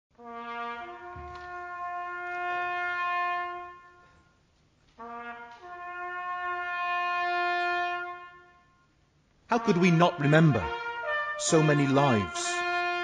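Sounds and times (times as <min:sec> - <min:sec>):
solo brass instrument call: 0:00.2 - 0:04.4, 0:05.0 - 0:08.9, 0:09.5 - 0:13.0.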